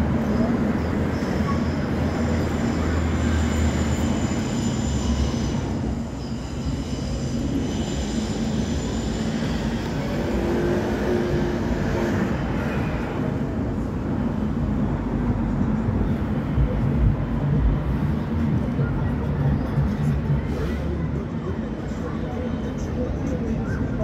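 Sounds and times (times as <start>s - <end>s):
passing street traffic: 0.0s - 24.0s
road noise: 0.0s - 24.0s
vehicle engine hum: 0.0s - 24.0s.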